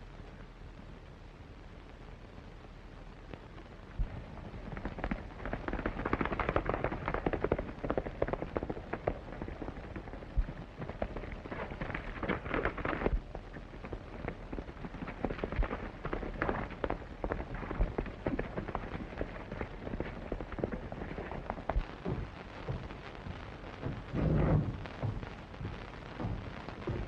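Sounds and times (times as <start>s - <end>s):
steady hiss: 0.0s - 27.0s
horse hoofbeats galloping: 4.0s - 27.0s.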